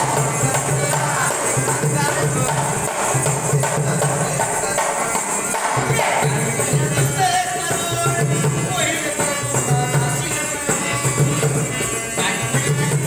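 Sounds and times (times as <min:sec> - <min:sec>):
hand drum rhythm: 0:00.0 - 0:13.0
harmonium chords: 0:00.0 - 0:13.0.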